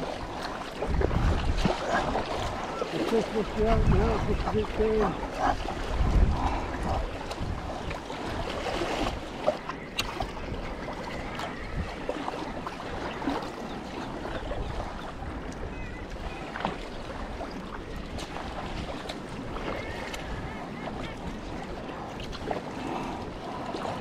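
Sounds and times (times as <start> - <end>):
water splashing against hull: 0.0 - 24.0
wind on microphone: 0.0 - 24.0.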